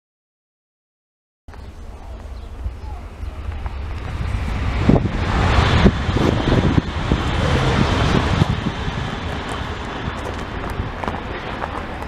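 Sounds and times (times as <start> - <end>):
wind buffeting microphone: 1.5 - 12.0
high-speed train passing: 1.8 - 12.0.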